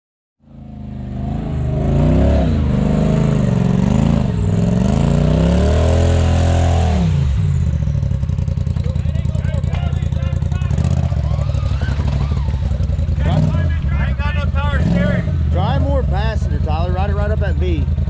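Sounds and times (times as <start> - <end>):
utility vehicle engine revving: 0.4 - 18.0.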